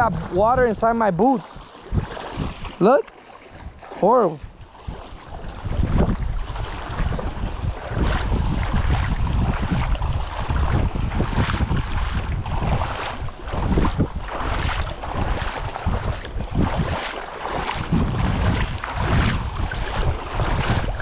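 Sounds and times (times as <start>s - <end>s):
footsteps wading through water: 0.0s - 21.0s
wind rumbling on microphone: 0.0s - 21.0s.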